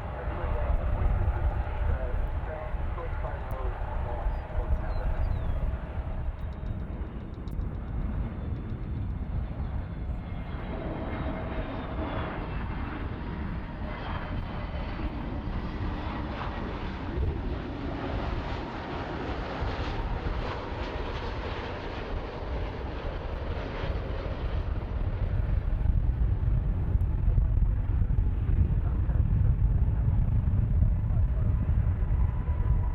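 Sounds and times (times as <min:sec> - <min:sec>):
jet engines running: 0:00.0 - 0:32.9.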